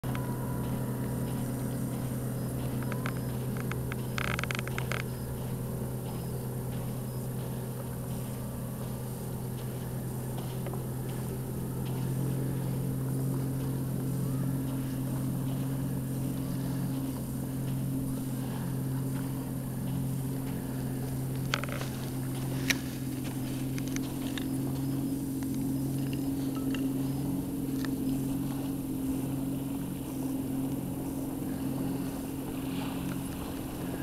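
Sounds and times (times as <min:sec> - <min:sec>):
low engine drone: 0:00.0 - 0:34.0.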